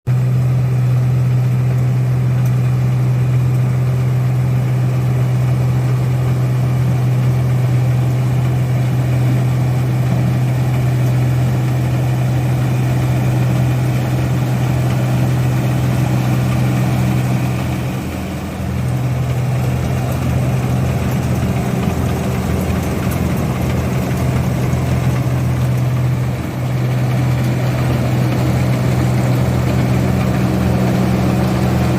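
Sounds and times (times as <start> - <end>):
machine engine humming: 0.1 - 31.9.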